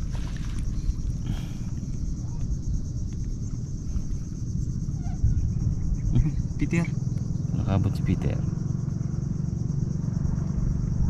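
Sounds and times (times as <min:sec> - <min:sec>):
high-pitched insect drone: 0:00.0 - 0:11.0
wind buffeting microphone: 0:00.0 - 0:11.0.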